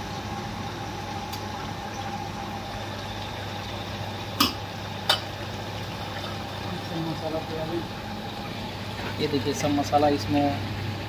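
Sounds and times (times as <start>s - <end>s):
chicken sizzling and bubbling: 0.0s - 11.0s
steady hum: 0.0s - 11.0s.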